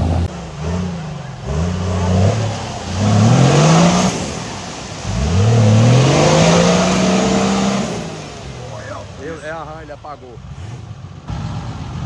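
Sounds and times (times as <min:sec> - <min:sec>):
off-road engine revving: 0:00.0 - 0:12.0.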